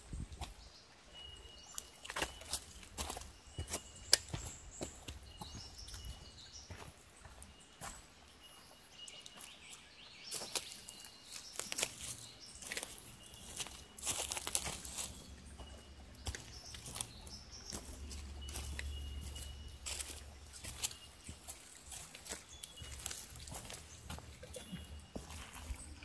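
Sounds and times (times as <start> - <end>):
birds chirping: 0.0 - 26.0
footsteps crunching on forest track: 1.6 - 26.0.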